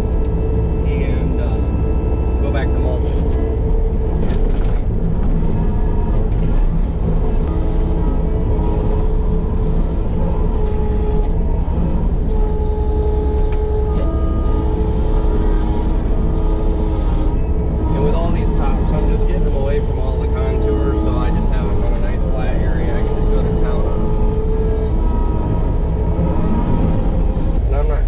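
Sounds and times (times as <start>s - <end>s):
high machine whines: 0.0s - 28.0s
loader diesel engine running: 0.0s - 28.0s.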